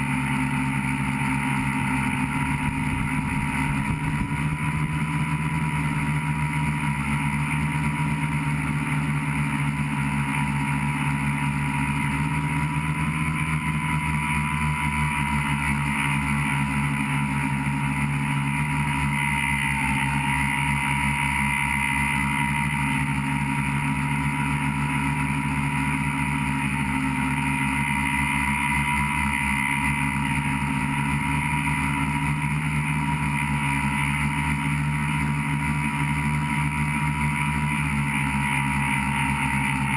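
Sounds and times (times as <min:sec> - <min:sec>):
drone motors and propellers humming: 0:00.0 - 0:39.9.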